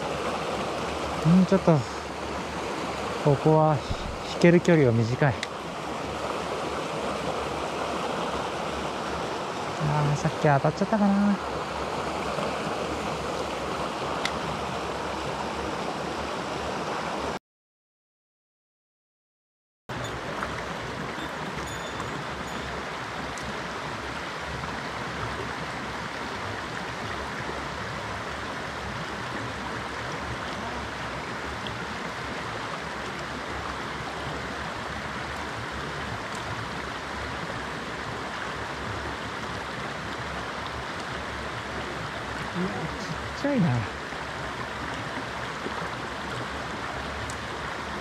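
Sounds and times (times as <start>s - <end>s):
stream flowing over rocks: 0.0s - 17.4s, 19.9s - 48.0s.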